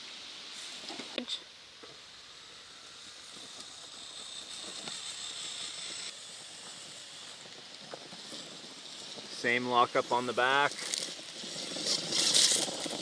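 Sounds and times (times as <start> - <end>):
electric motors whining: 1.7 - 13.0.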